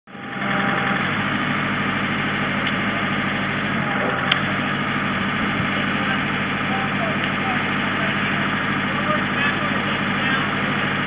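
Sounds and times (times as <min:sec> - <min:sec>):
backhoe engine idling: 0:00.1 - 0:11.0.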